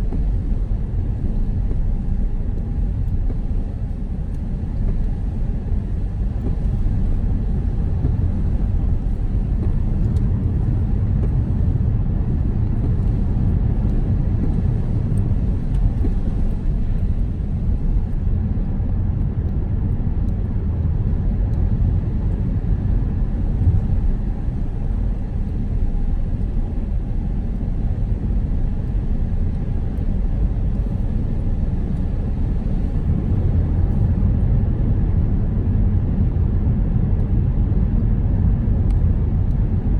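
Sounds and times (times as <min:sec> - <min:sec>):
road and engine rumble in car: 0:00.0 - 0:39.9.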